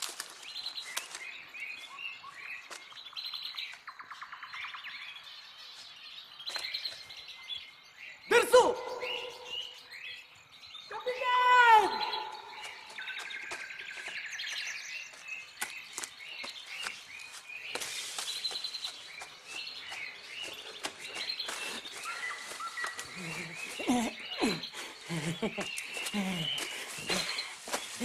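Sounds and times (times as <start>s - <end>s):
small birds chirping and trilling: 0.0s - 28.0s.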